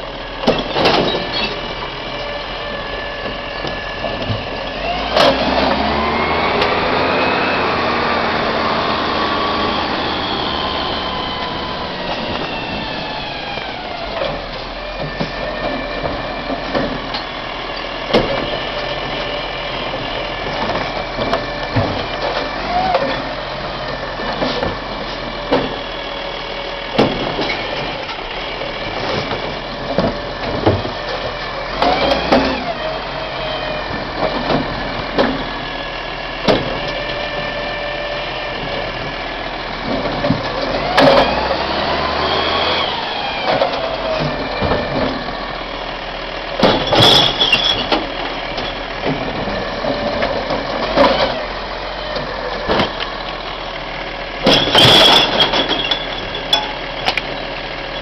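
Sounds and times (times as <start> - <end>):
garbage truck engine and hydraulics whine: 0.0 - 58.0.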